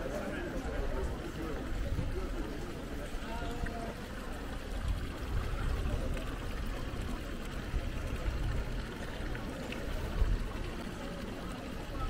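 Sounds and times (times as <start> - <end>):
city street low rumble: 0.0 - 12.0.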